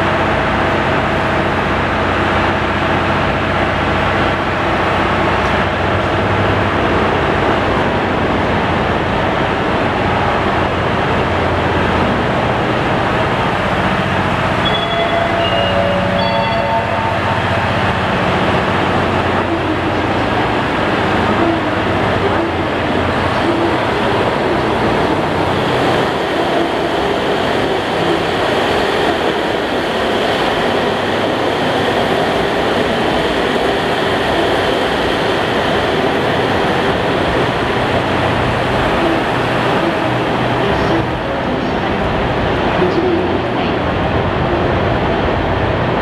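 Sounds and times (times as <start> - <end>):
trains rumbling and hissing: 0.0 - 46.0.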